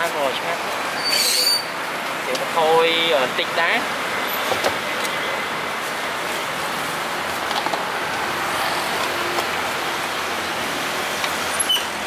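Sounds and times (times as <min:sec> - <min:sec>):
street traffic hiss: 0:00.0 - 0:12.0.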